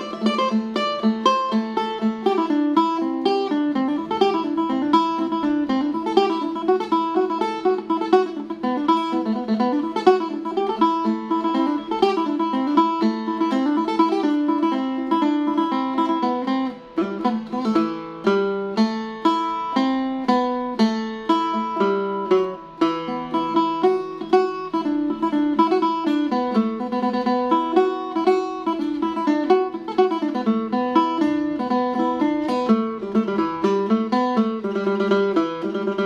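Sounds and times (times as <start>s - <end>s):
plucked lute melody: 0.0s - 36.0s.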